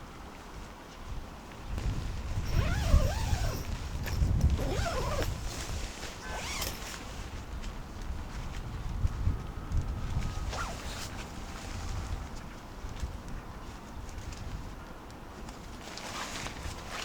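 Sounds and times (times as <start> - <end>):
wind buffeting microphone: 1.1 - 14.8.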